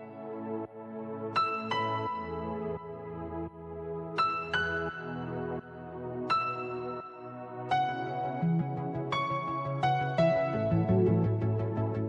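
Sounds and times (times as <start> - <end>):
background music sustained chords: 0.0 - 12.0.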